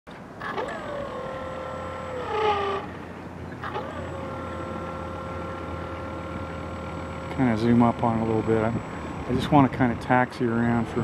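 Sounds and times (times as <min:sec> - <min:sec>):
electric motor whine: 0:00.4 - 0:11.0.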